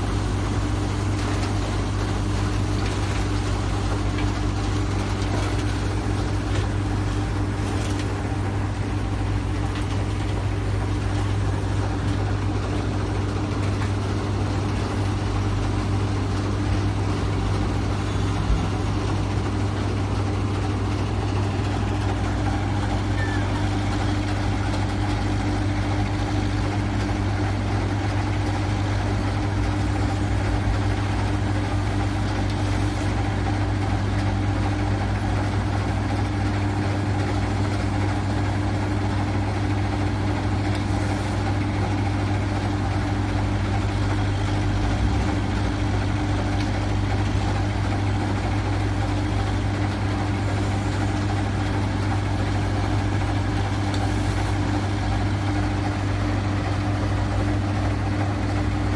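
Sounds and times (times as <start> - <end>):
low machine drone: 0.0 - 35.2, 40.9 - 58.9.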